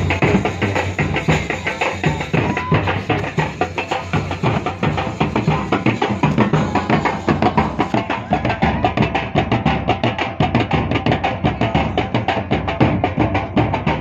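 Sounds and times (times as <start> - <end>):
fast even drum beats: 0.0 - 14.0
folk dance music: 0.0 - 14.0.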